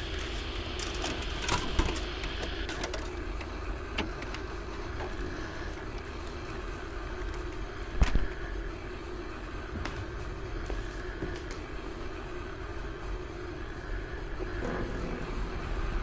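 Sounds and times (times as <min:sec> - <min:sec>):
electrical hum and hiss: 0:00.0 - 0:16.0.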